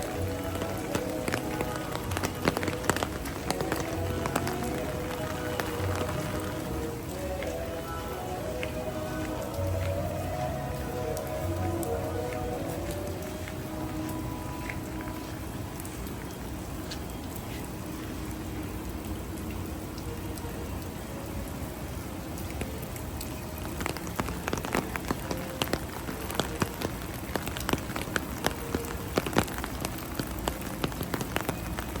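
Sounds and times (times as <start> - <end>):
heavy rain hissing: 0.0 - 32.0
raindrops pattering close by: 0.0 - 32.0.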